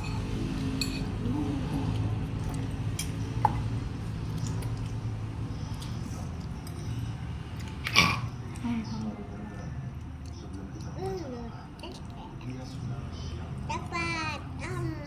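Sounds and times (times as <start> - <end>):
wet eating sounds: 0.0 - 14.9
steady low hum: 0.0 - 15.0.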